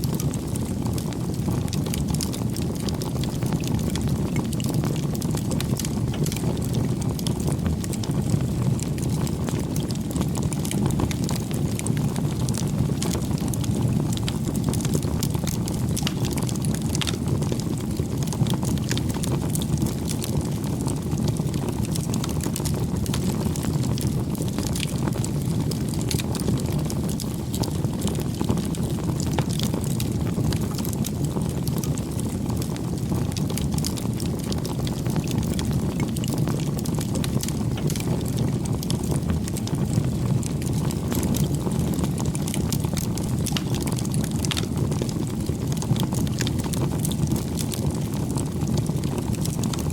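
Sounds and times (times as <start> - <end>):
low rumble of flames: 0.0 - 49.9
wood crackling and popping: 0.0 - 49.9.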